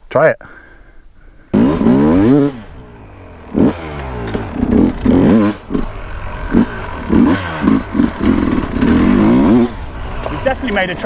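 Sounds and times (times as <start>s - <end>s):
dirt bike engine revving: 1.5s - 11.0s.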